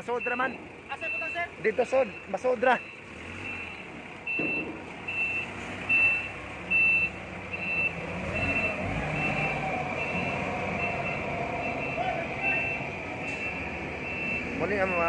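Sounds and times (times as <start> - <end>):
forklift engine running: 0.0 - 15.0
backup alarm beeping: 0.1 - 15.0.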